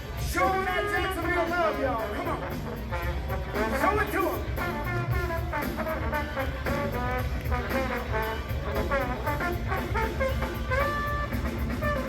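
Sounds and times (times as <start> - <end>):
drums keeping a beat: 0.0 - 12.0
trombone solo: 2.3 - 12.0.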